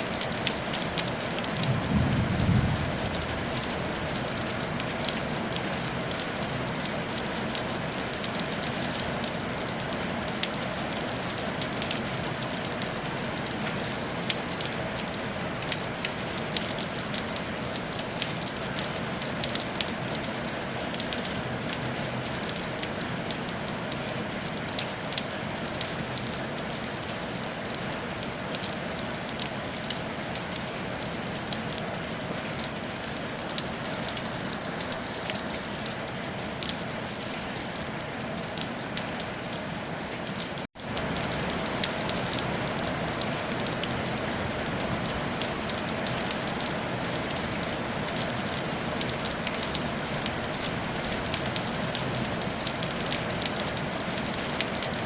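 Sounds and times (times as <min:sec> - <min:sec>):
rain on a tile roof: 0:00.0 - 0:55.0.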